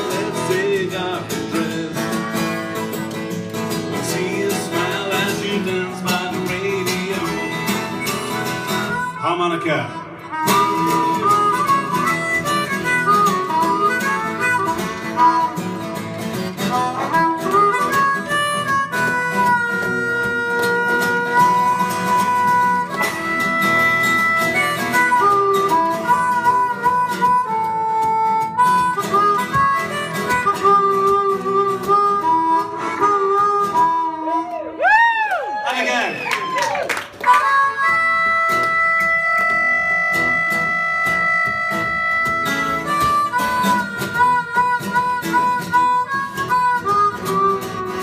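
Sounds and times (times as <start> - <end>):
strummed acoustic guitar: 0.0 - 34.4, 37.4 - 48.0
harmonica solo: 0.0 - 34.8, 37.2 - 48.0.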